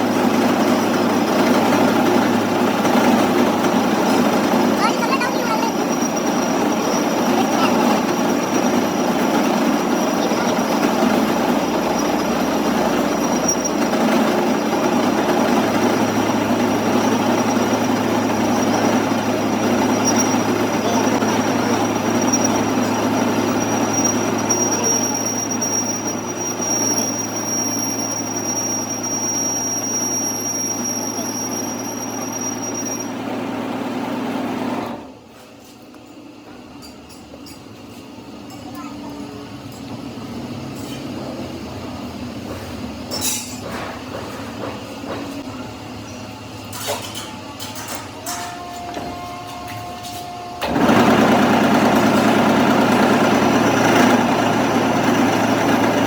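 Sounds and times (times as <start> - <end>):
metalworking machine whining: 0.0 - 35.2, 36.7 - 56.0.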